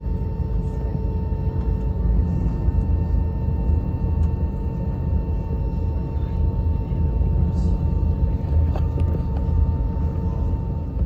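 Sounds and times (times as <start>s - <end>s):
airliner cabin rumble: 0.0s - 11.0s
thin steady humming tones: 0.0s - 11.0s.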